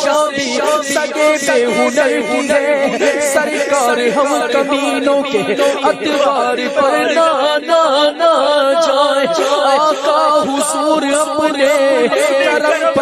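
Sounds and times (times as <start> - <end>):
man chanting melismatic melody: 0.0 - 13.0.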